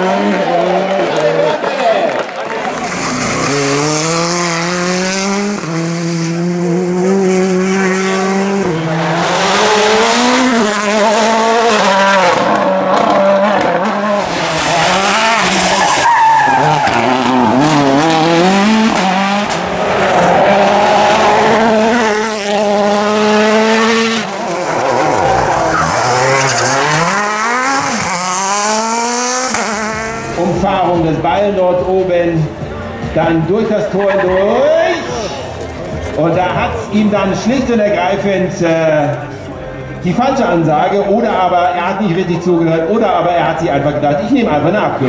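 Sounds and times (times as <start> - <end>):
rally car engine revving: 0.0 - 1.4, 2.6 - 45.0.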